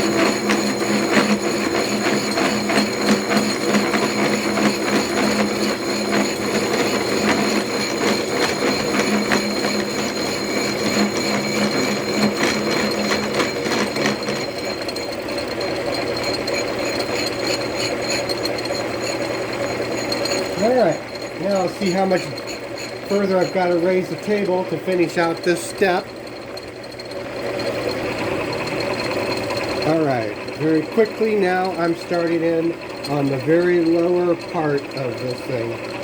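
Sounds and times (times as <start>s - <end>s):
cutter rattling through metal: 0.0s - 36.0s
milling machine hum: 0.0s - 36.0s.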